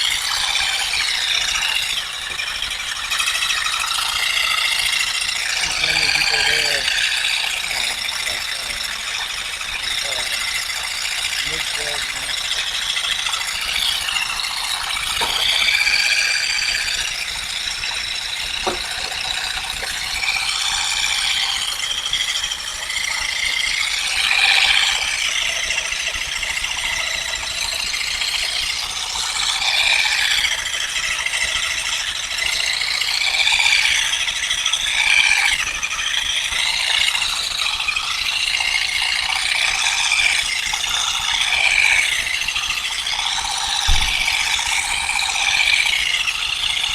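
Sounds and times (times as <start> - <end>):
fast mechanical rattling: 0.0 - 46.9
wavering high whine: 0.0 - 46.9.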